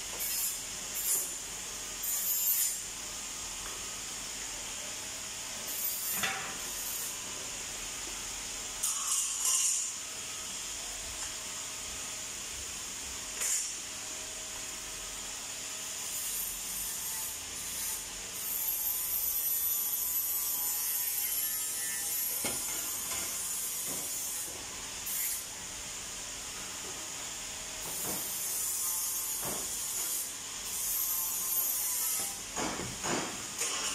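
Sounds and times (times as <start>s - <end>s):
workshop machinery hiss: 0.0s - 33.9s.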